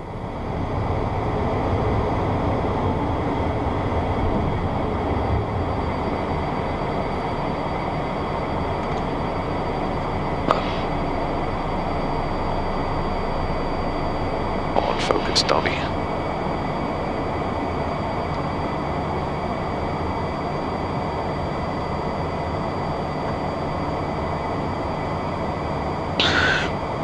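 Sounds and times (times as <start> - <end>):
faint high whine: 0.0 - 27.0
jet cockpit noise: 0.0 - 27.0.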